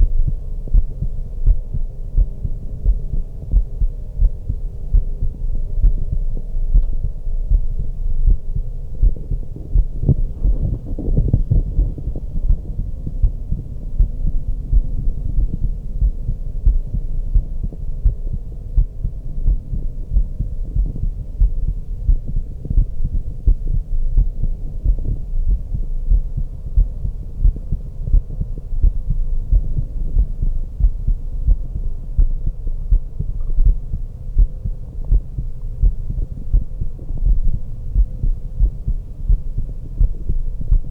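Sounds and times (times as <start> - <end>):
faint steady hum: 0.0 - 40.9
heartbeat through stethoscope: 0.0 - 40.9.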